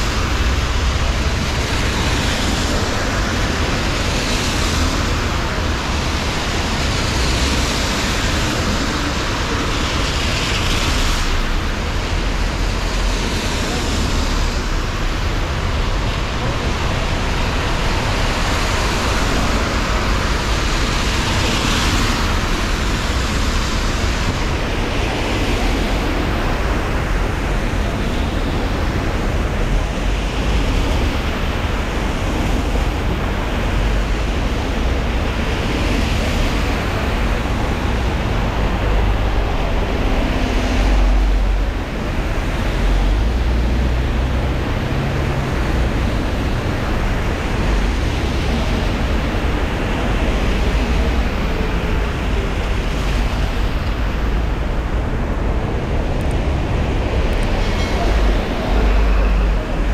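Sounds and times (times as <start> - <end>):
falling rain: 0.0 - 59.9
heavy vehicle engine rumble: 0.0 - 59.9
tyres hissing on wet road: 0.0 - 59.9.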